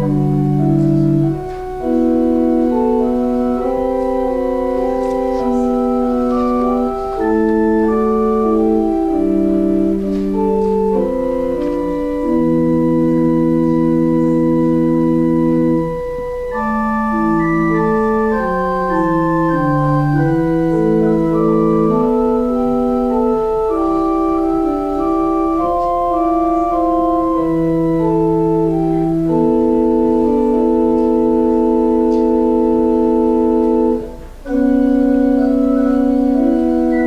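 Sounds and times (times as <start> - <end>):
organ playing sustained chords: 0.0 - 37.0.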